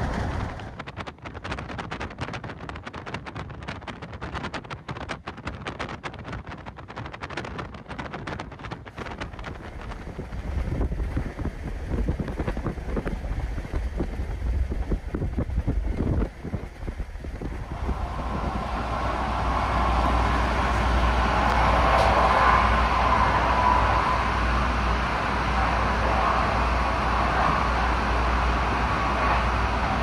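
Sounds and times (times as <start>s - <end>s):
train wheels rumbling on rails: 0.0s - 30.0s
wind buffeting: 0.0s - 30.0s.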